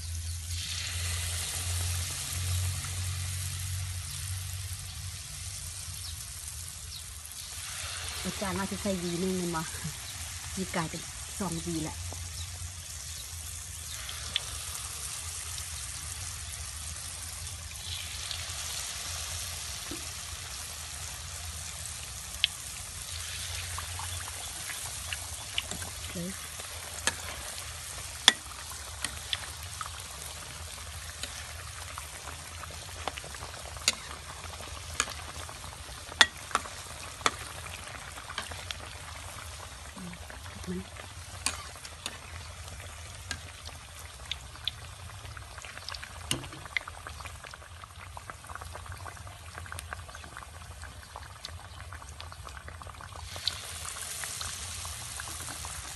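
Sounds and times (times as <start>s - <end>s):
food sizzling in hot oil: 0.0s - 55.9s.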